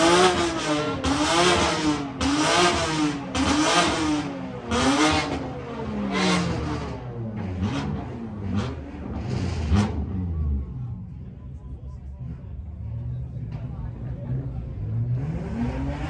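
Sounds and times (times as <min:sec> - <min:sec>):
car engine revving: 0:00.0 - 0:11.3, 0:12.3 - 0:16.0.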